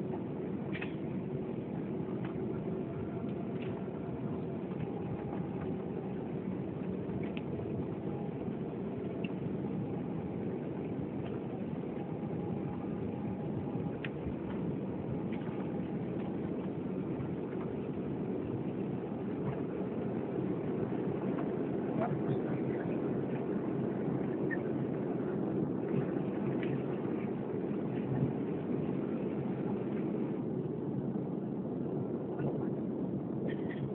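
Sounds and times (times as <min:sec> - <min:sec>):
jet engines at take-off power: 0:00.0 - 0:33.9.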